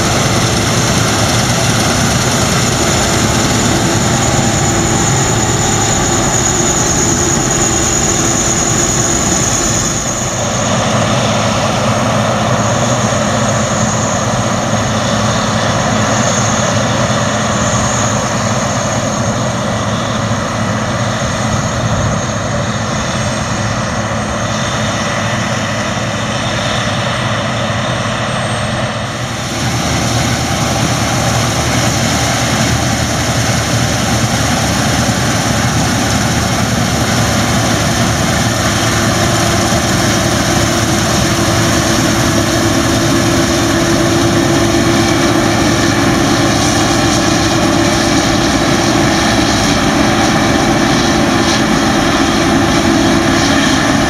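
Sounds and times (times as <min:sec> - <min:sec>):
combine harvester drone: 0:00.0 - 0:54.0.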